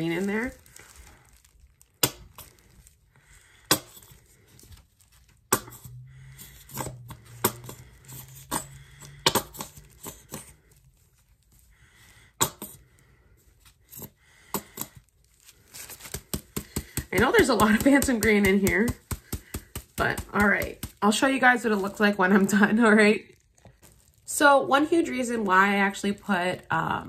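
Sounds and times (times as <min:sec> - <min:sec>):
rubber gloves rustling: 0:00.0 - 0:27.0.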